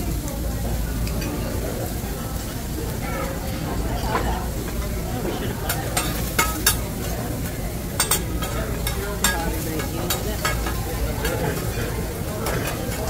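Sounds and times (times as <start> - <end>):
food sizzling on griddle: 0.0 - 13.0
metal utensils clinking on griddle: 1.0 - 2.0, 3.0 - 13.0.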